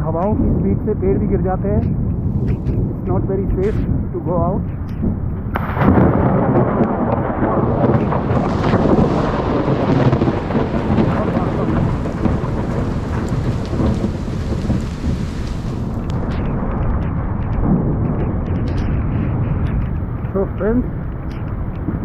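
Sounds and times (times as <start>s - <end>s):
thunder rumbling: 0.0s - 22.0s
heavy rain: 2.2s - 22.0s.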